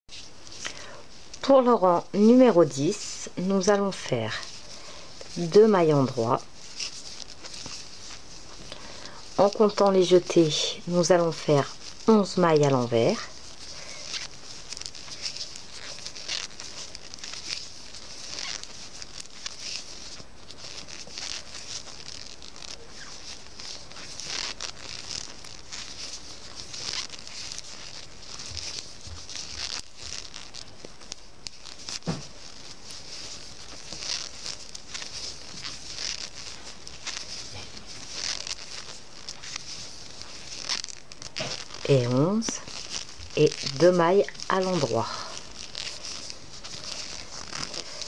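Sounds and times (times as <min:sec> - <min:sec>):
knitting needles rustling yarn: 0:00.1 - 0:48.0.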